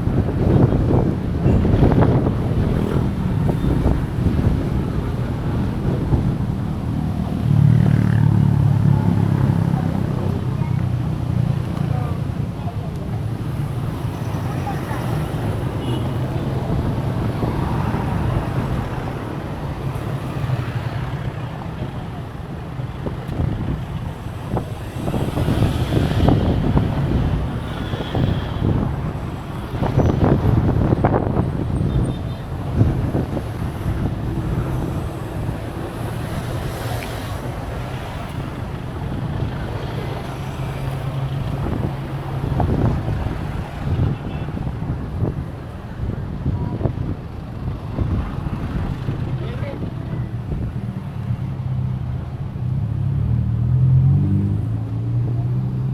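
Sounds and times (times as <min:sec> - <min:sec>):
wind buffeting microphone: 0:00.0 - 0:53.0
road traffic rumble: 0:00.0 - 0:55.9.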